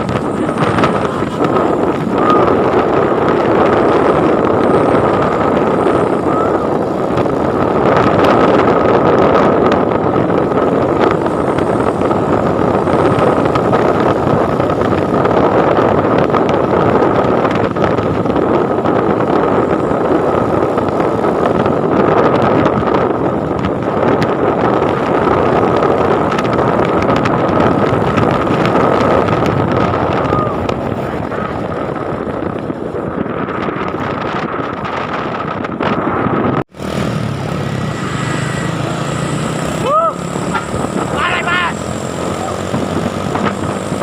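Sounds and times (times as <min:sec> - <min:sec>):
truck engine and road noise: 0:00.0 - 0:44.0
wind buffeting microphone: 0:00.0 - 0:44.0.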